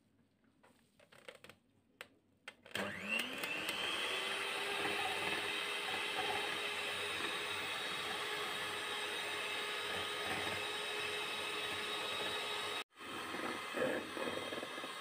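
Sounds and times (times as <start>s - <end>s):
electric hand mixer whining: 2.7s - 15.0s.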